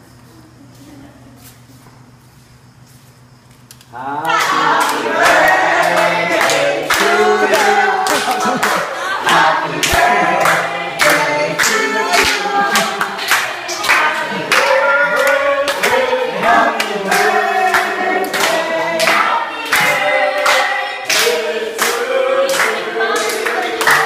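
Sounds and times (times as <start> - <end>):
group of people singing: 3.9 - 24.0
people clapping along: 4.0 - 24.0.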